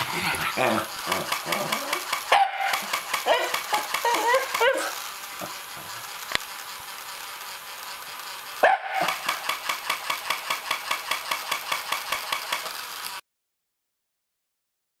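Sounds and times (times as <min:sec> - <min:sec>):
toy mechanism clicking: 0:00.0 - 0:13.2.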